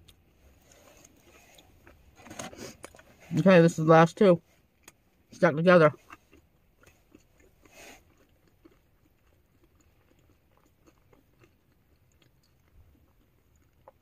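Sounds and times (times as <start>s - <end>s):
chewing fries: 0.0s - 3.9s, 4.6s - 14.0s.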